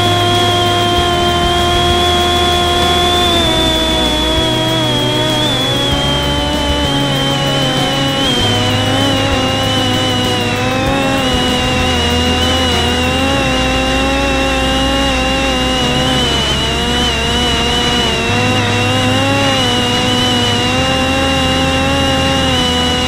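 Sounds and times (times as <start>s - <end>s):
drone motor buzzing whine: 0.0s - 23.0s.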